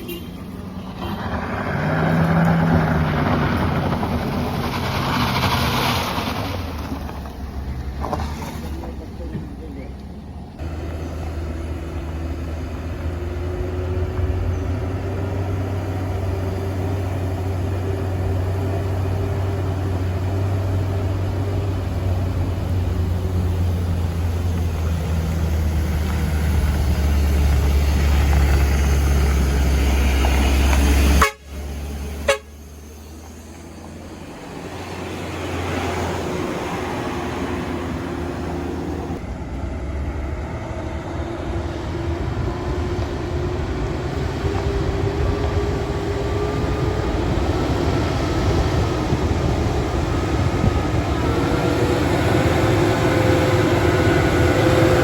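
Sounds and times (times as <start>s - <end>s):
diesel truck engine labouring: 0.0s - 55.0s.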